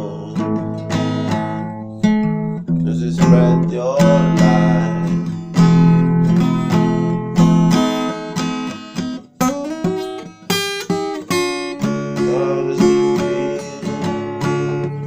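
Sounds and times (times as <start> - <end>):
acoustic guitar strumming chords: 0.0 - 15.0
picked guitar notes: 0.0 - 15.0.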